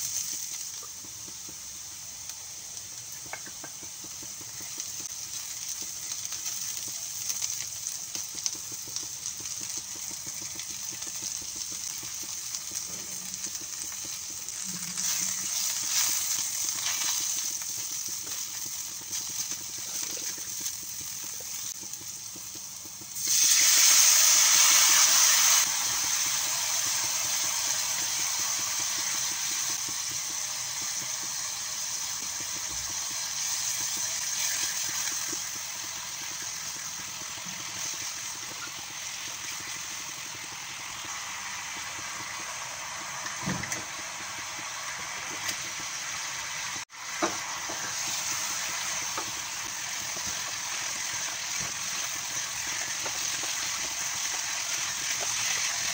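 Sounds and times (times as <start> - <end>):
sauce sizzling in a hot pan: 0.0 - 55.9.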